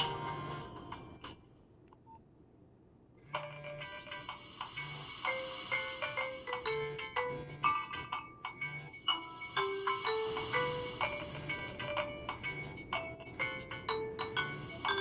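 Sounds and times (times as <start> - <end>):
mobile phone ringtone: 0.0 - 1.2, 3.3 - 15.0.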